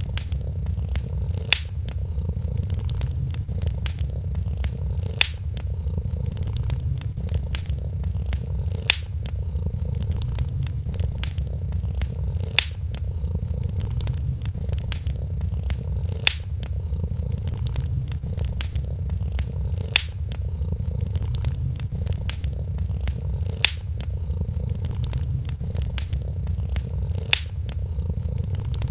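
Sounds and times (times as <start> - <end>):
cat purring: 0.0 - 28.9
wood fire crackling: 0.0 - 28.9.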